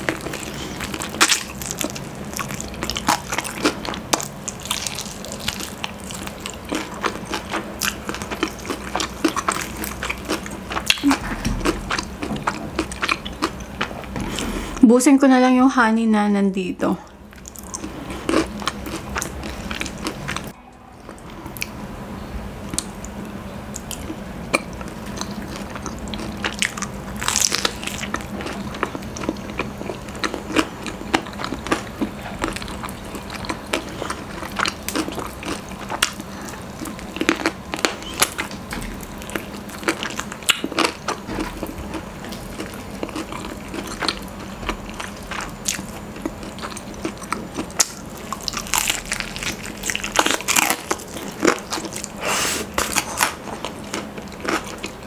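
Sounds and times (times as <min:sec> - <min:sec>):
chewing honeycomb: 0:00.0 - 0:14.5, 0:17.2 - 0:21.8, 0:22.6 - 0:55.0
crunching fried chicken: 0:00.0 - 0:14.5, 0:17.2 - 0:20.6, 0:22.7 - 0:55.0.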